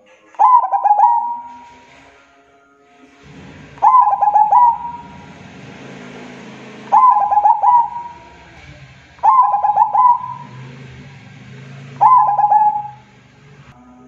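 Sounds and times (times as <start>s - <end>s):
dove singing: 0.0s - 2.2s, 3.0s - 13.8s.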